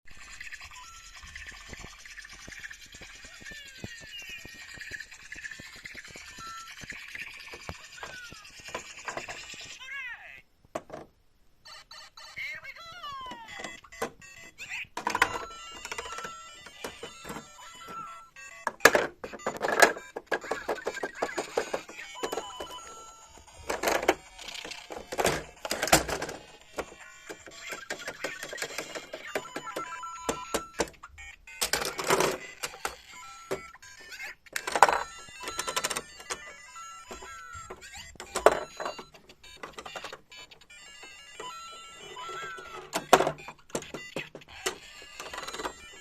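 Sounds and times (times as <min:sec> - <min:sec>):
toy figure electronic beeps: 0:00.2 - 0:09.8, 0:11.6 - 0:46.0.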